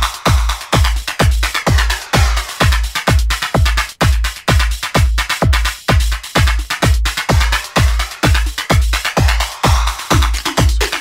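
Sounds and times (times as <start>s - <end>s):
electronic dance music: 0.0s - 11.0s
kick drum with deep bass: 0.0s - 11.0s.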